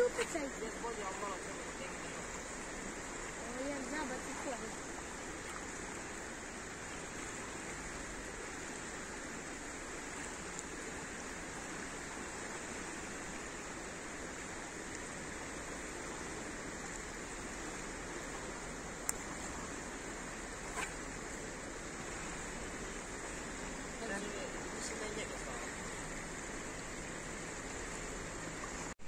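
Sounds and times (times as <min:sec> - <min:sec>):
fast-flowing river: 0:00.0 - 0:29.0.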